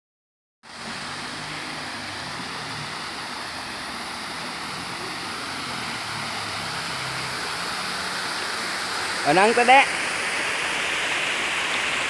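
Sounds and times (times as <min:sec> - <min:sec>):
water rushing over weir: 0:00.6 - 0:12.0.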